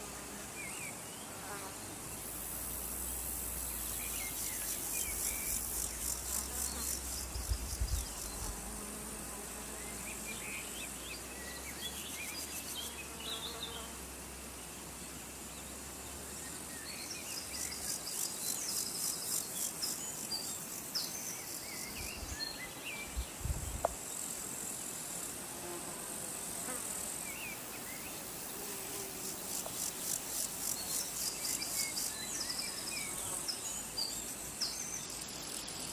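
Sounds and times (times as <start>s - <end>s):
insects stridulating: 0.0s - 35.9s.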